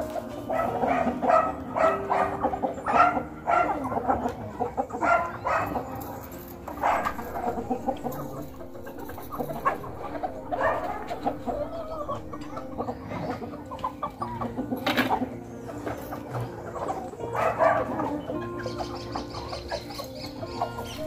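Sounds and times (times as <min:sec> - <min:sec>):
hens and roosters clucking: 0:00.0 - 0:21.0.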